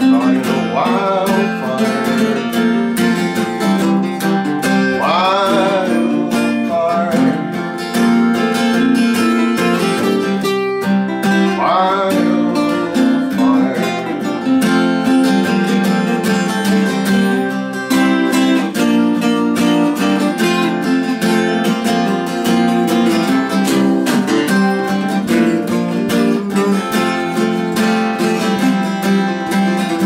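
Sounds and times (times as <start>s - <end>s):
acoustic guitar strumming: 0.0s - 30.0s
sliding lead guitar melody: 0.0s - 30.0s.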